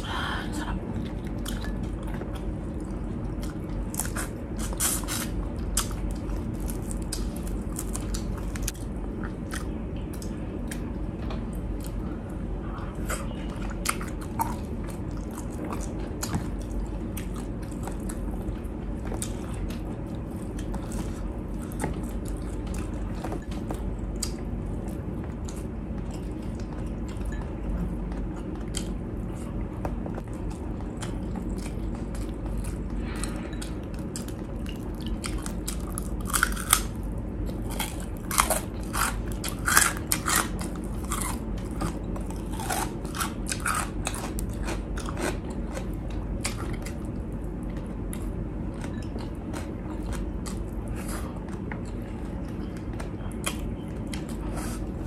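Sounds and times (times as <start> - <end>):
chewing with wet mouth sounds: 0.0 - 55.0
low background hum: 0.0 - 55.0.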